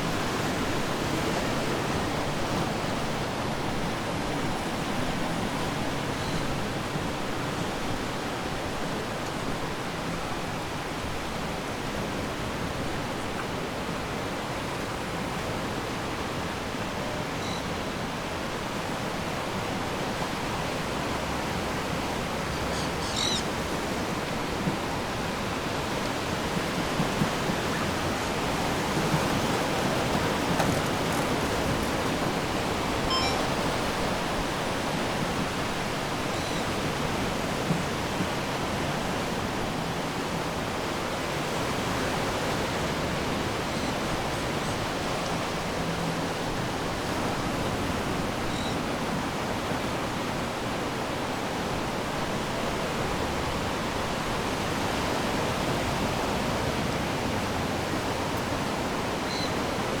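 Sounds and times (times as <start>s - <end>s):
ocean surf washing on shore: 0.0s - 60.0s.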